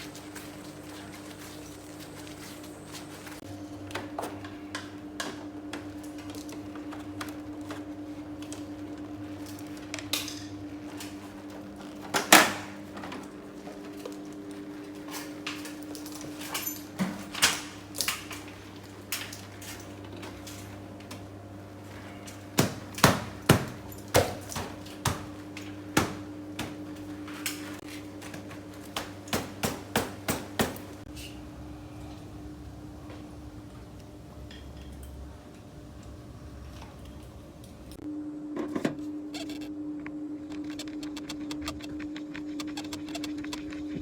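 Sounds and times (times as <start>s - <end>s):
steady machine hum: 0.0s - 44.0s.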